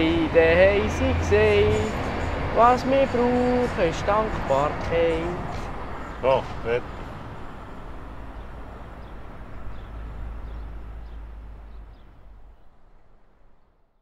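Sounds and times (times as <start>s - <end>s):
diesel engines rumbling: 0.0s - 13.5s.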